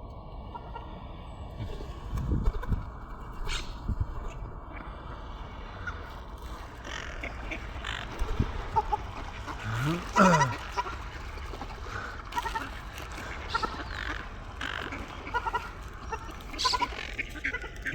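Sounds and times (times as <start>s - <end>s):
birds calling harshly: 0.4s - 17.9s.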